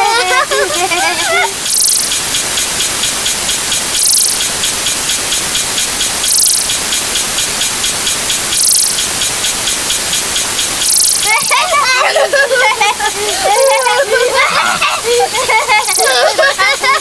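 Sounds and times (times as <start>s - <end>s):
bright hissing burst: 0.0s - 17.0s
fast ticks: 0.0s - 17.0s
layered sound effects noise: 0.0s - 17.0s.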